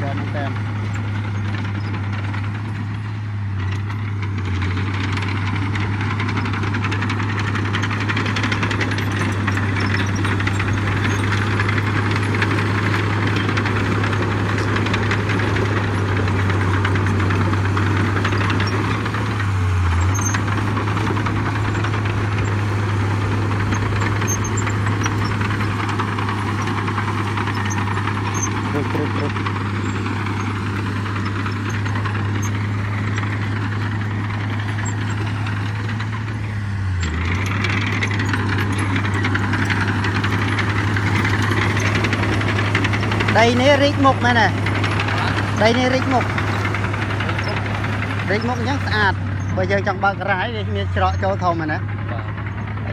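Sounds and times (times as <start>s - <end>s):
diesel machinery running: 0.0s - 52.9s.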